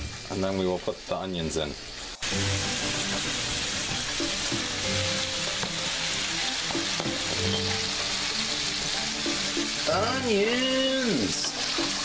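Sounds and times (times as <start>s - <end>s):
sausage sizzling in a pan: 0.0s - 12.0s.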